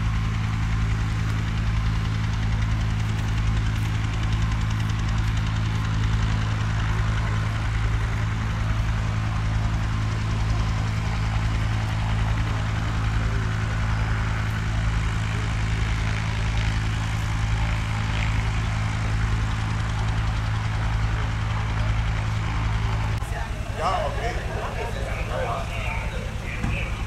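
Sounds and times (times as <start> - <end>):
helicopter rotor beating: 0.0 - 27.0
turbine hum: 0.0 - 27.0.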